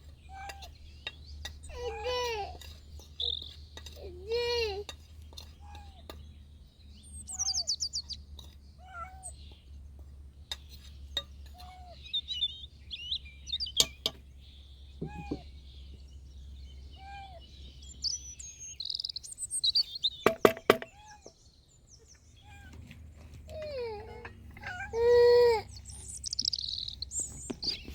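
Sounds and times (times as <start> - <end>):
small birds chirping and trilling: 0.0 - 27.9.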